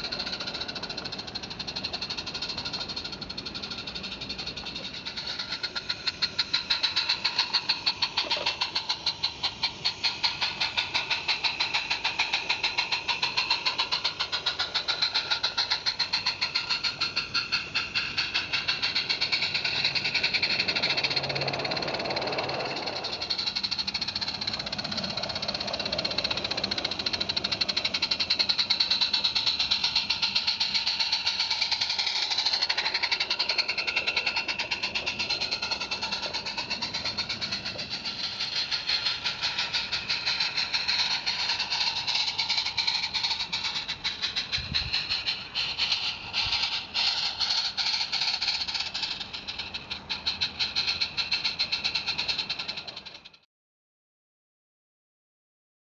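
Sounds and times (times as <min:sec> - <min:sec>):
steam locomotive chuffing: 0:00.0 - 0:53.4.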